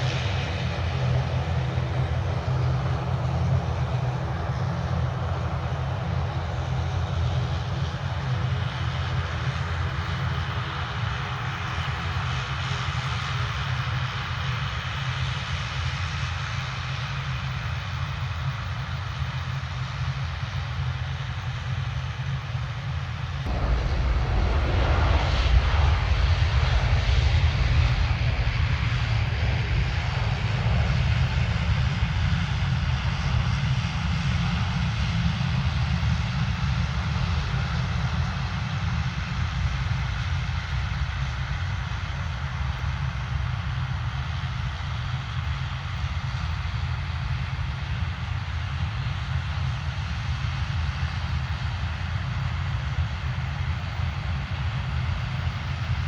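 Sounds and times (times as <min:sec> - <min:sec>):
airliner engines running: 0:00.0 - 0:56.0.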